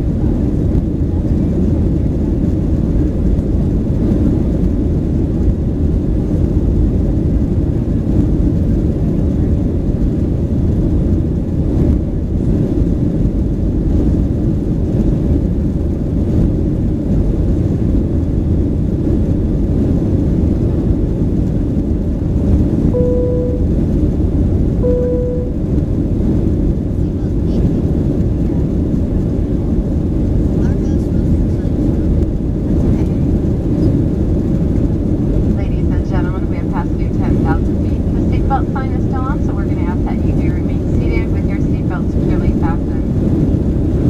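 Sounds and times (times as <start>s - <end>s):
airplane cabin roar: 0.0s - 44.0s.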